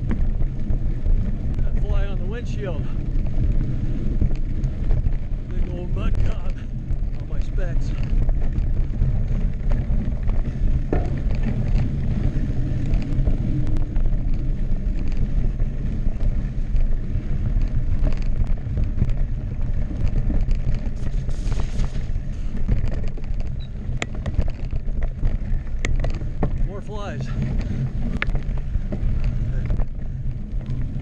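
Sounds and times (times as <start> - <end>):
bike rattling over bumps: 0.0 - 31.0
tyres rolling on dirt: 0.0 - 31.0
wind on microphone: 0.0 - 31.0.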